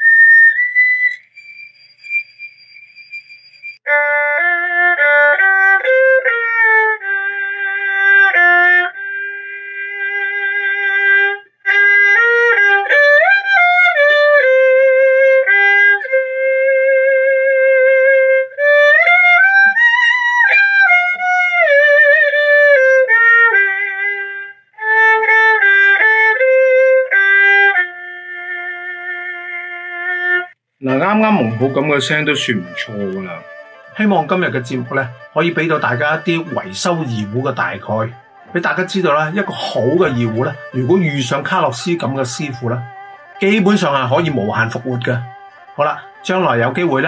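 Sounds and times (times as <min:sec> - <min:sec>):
bowed erhu melody: 0:00.0 - 0:47.0.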